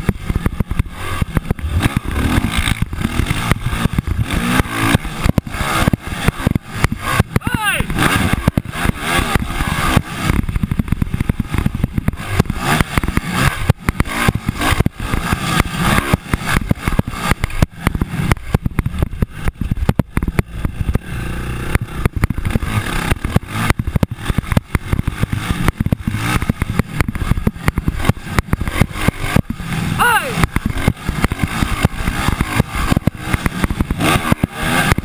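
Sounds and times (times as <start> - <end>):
dirt bike engines: 0.0 - 35.0.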